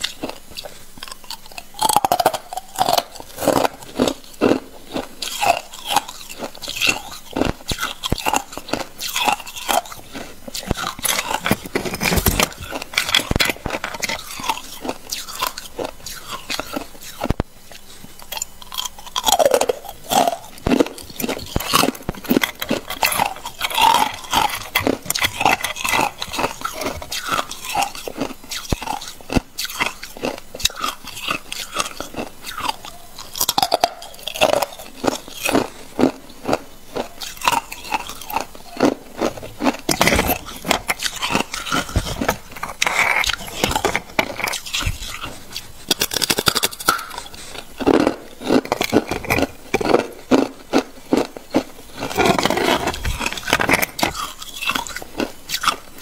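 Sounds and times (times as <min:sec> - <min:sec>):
ice crunching being chewed: 0:00.0 - 0:56.0.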